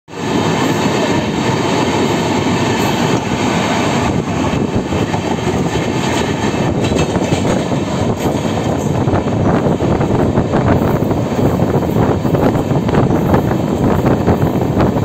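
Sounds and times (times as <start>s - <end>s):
trains rumbling on rails: 0.1s - 15.0s.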